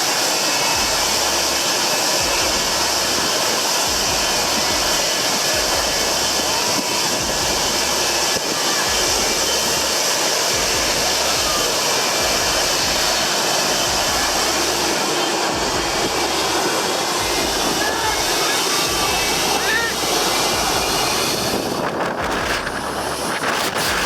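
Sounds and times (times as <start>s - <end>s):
jet engine exhaust rush: 0.0s - 24.0s
wind buffeting microphone: 0.0s - 24.0s.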